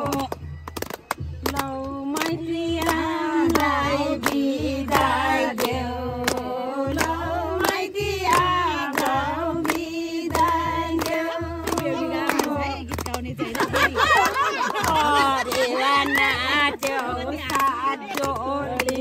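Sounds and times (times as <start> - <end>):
group singing in unison: 0.0 - 0.4, 1.5 - 12.8, 13.6 - 19.0
hands clapping in time: 0.0 - 19.0.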